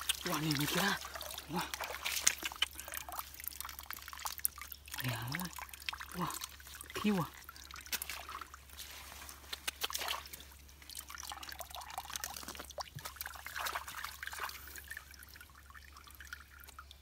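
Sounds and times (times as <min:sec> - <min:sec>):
small water splashes: 0:00.0 - 0:17.0
water trickling and dripping: 0:00.0 - 0:17.0.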